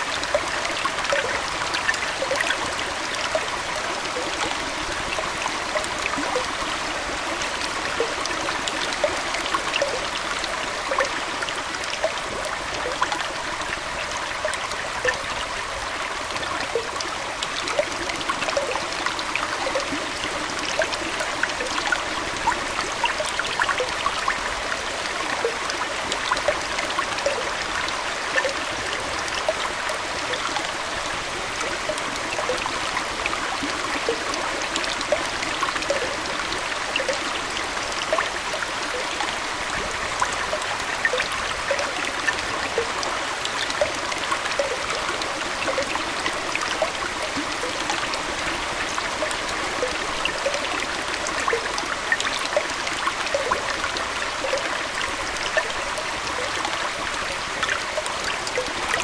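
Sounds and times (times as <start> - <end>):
aquarium water trickling: 0.0 - 59.0
small bubbling plinks: 0.0 - 59.0.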